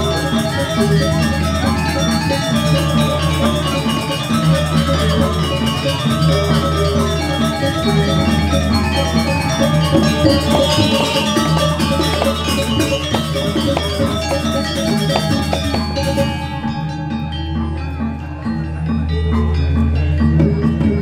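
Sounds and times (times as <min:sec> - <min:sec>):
metallophones ringing: 0:00.0 - 0:21.0.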